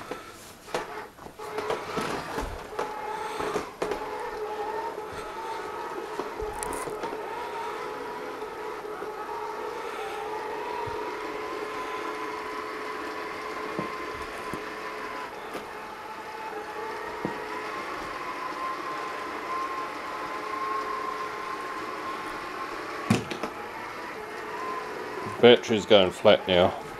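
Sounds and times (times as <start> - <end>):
robot vacuum running over carpet: 0.0 - 26.9.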